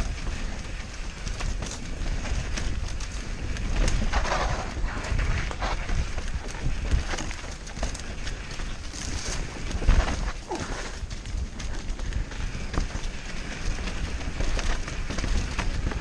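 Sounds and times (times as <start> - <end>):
bike rattling over bumps: 0.0 - 16.0
tyres running over dirt and stones: 0.0 - 16.0
wind rumbling on microphone: 0.0 - 16.0.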